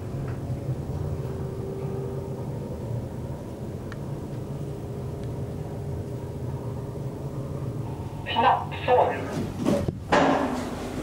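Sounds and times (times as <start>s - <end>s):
elevator hum: 0.0s - 11.0s.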